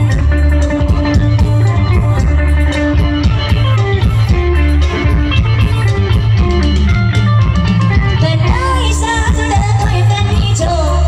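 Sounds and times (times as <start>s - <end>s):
live band with heavy bass: 0.0s - 11.0s.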